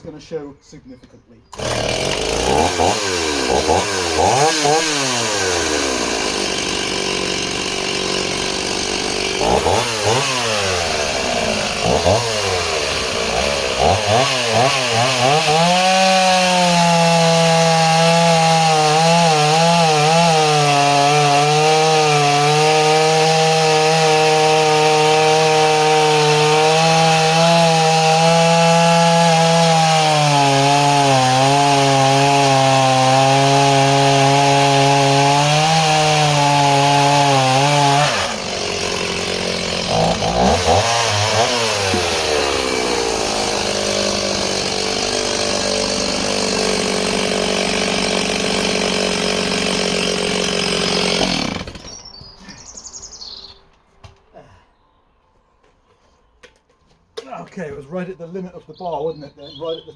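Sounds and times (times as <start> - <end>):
chainsaw revving: 1.5 - 52.0
chainsaw cutting wood: 1.5 - 52.2.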